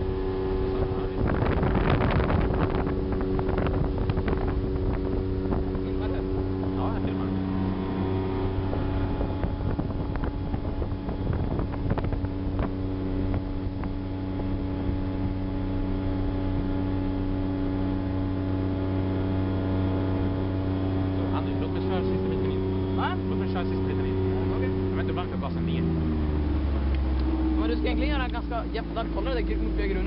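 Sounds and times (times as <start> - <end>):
outboard motor running: 0.0 - 30.0.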